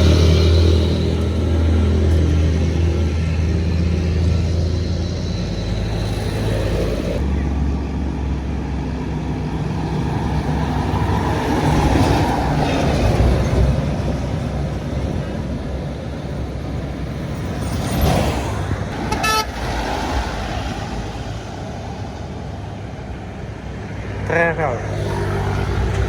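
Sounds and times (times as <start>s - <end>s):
heavy vehicle diesel engine passing: 0.0s - 26.0s.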